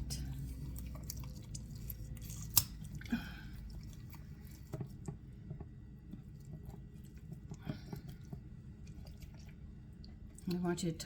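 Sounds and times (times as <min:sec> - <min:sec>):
wet squishing of raw chicken: 0:00.0 - 0:10.7.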